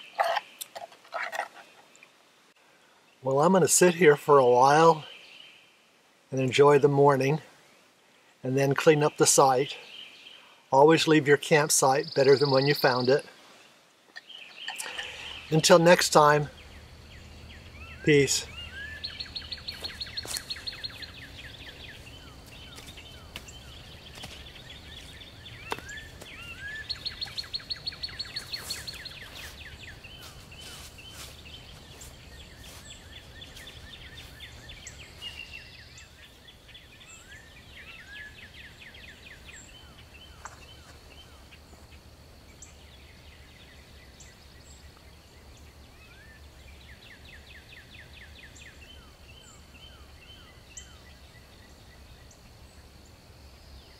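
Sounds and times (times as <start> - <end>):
songbirds trilling: 0.0 - 53.9.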